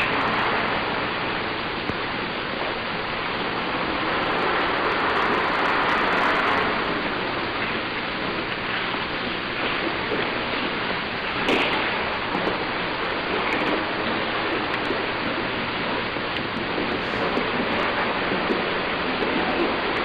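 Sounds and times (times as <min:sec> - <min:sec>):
steady rain-like rushing noise: 0:00.0 - 0:20.0.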